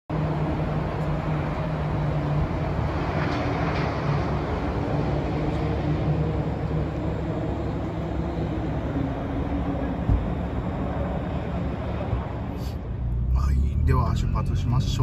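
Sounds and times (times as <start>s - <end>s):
car engines and traffic hum: 0.1s - 15.0s.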